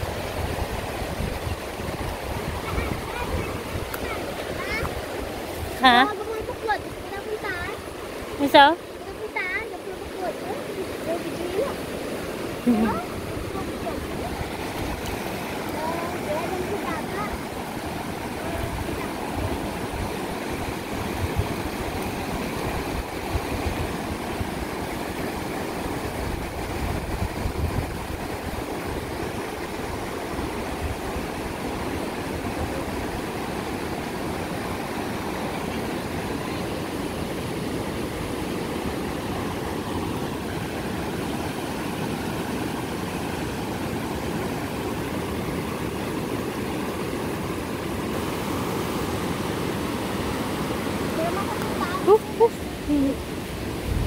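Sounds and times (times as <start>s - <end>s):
rushing floodwater: 0.0s - 54.0s.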